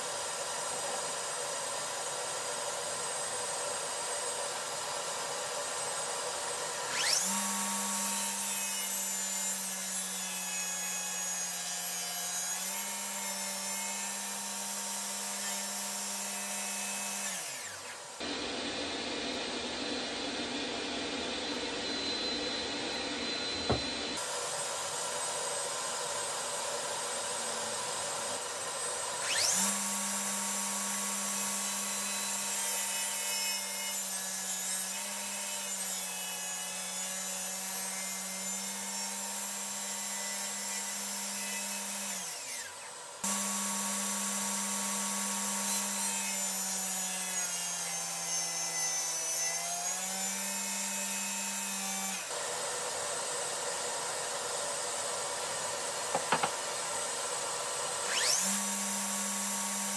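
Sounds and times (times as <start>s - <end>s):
table saw cutting wood: 0.0s - 59.9s.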